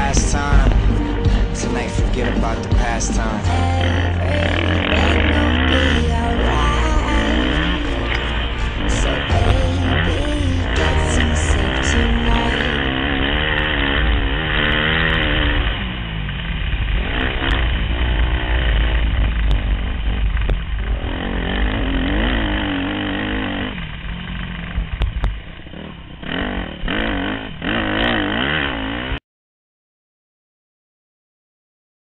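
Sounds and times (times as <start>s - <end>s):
motocross bike engine revving: 0.0s - 29.2s.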